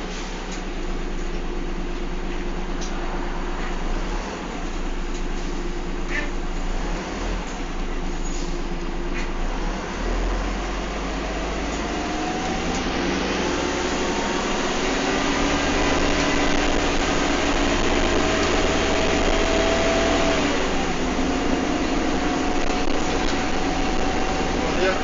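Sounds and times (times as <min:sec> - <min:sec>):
bus engine whine: 0:00.0 - 0:25.0.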